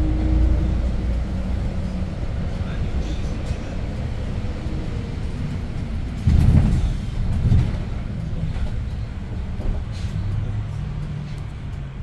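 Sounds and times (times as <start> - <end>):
bus engine running inside cabin: 0.0 - 12.0.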